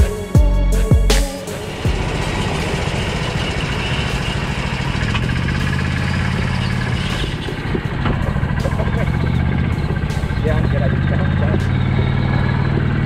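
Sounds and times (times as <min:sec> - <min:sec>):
rc truck electric motors rumbling: 0:01.6 - 0:13.0.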